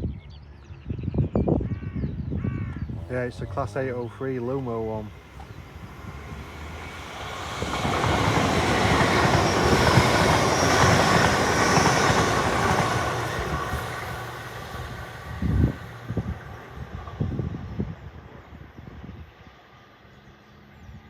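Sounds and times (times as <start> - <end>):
electric train passing: 3.0 - 21.0.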